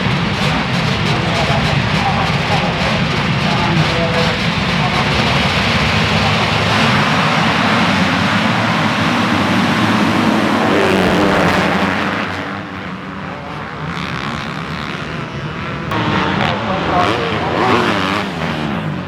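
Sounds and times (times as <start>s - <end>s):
motocross bikes revving past: 0.0s - 19.0s.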